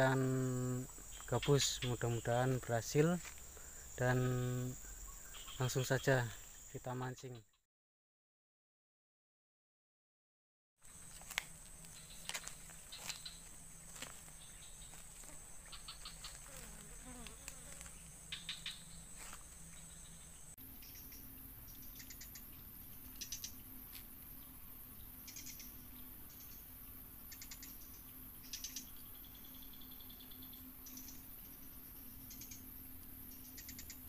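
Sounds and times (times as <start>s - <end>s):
rapid insect clicks: 0.0s - 6.9s, 10.9s - 20.2s, 20.8s - 34.0s
insects buzzing: 0.0s - 7.4s, 10.8s - 34.0s.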